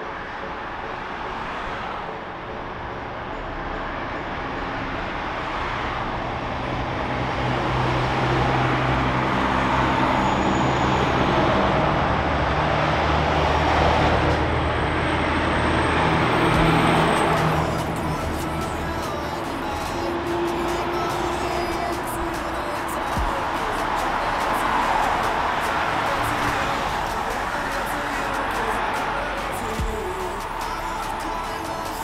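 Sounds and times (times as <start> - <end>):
road traffic: 0.0 - 32.0
train approaching on track: 0.0 - 32.0.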